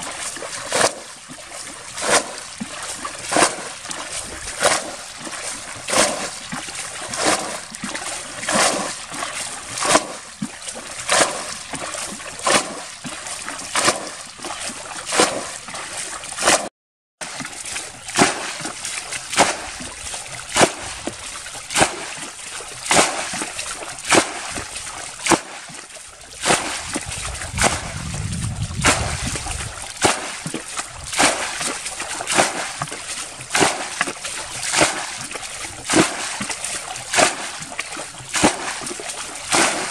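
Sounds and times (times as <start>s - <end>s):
water sloshing and trickling: 0.0s - 39.9s
water splashing from bucket: 0.0s - 39.9s.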